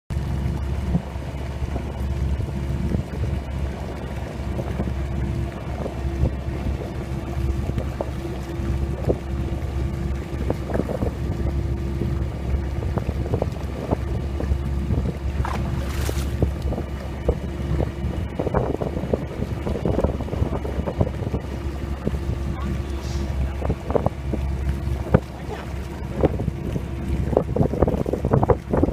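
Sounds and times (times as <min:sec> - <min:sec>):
low mechanical hum: 0:00.1 - 0:28.9
wind on microphone: 0:00.1 - 0:28.9.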